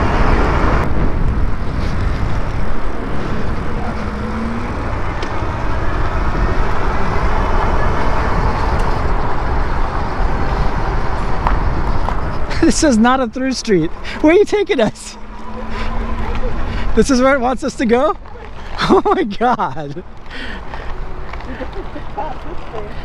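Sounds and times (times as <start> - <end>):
wind rushing over microphone: 0.0 - 18.8
road noise: 0.0 - 23.0.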